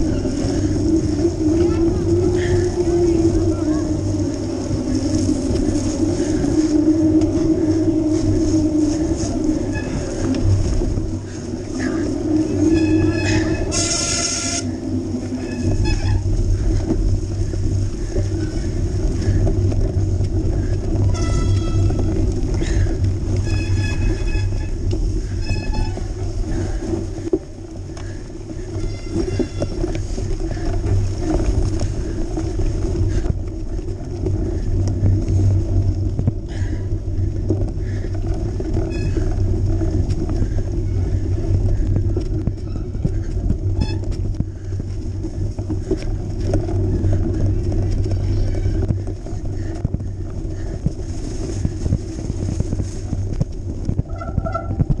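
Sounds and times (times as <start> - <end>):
bike tyres rumbling over snow: 0.0 - 55.0.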